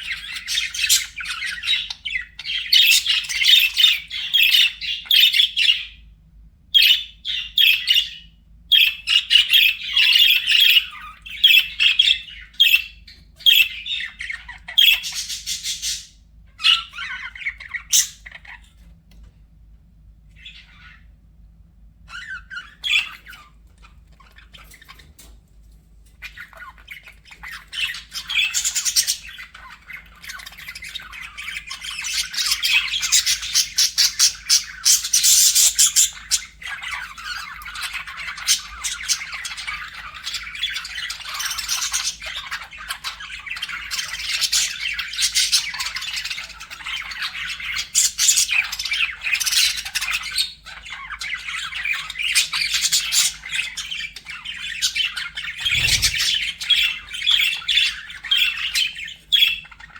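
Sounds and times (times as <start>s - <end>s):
budgerigars chattering: 0.0s - 6.0s, 6.8s - 18.8s, 22.1s - 25.3s, 26.1s - 59.9s.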